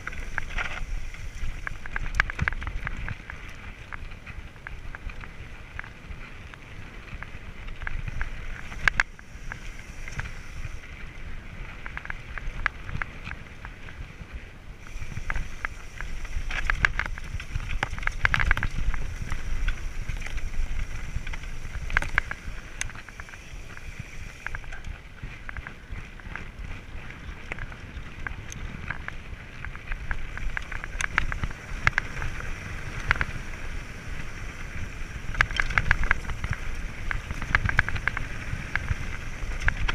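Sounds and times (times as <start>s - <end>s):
bike clattering over bumps: 0.0s - 14.2s, 14.8s - 39.9s
tyres crunching on loose ground: 0.0s - 39.9s
wind rumbling over microphone: 0.0s - 39.9s.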